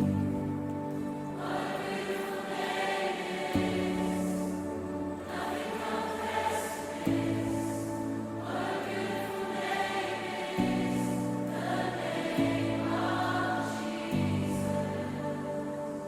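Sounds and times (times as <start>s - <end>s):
choir singing slow song: 0.0s - 16.0s.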